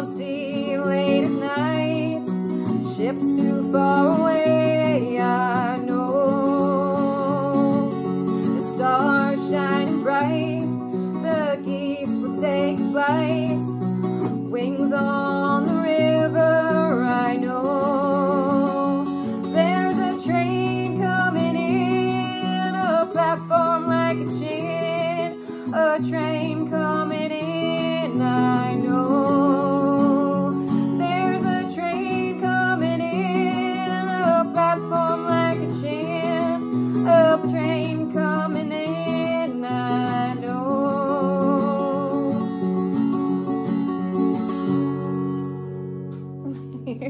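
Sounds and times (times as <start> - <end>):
woman singing with vibrato: 0.0 - 42.6
acoustic guitar: 0.0 - 47.0.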